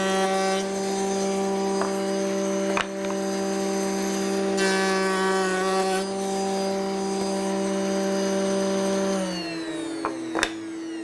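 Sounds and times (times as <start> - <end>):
router bit rasping through wood: 0.0 - 11.0
router whining: 0.0 - 11.0.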